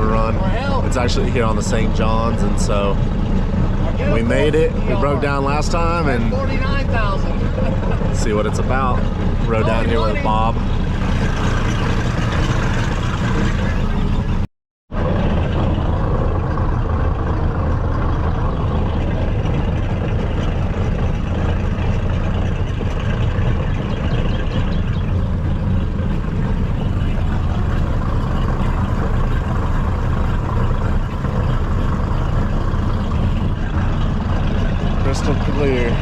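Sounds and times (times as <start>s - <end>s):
boat engine low rumble: 0.0s - 36.0s.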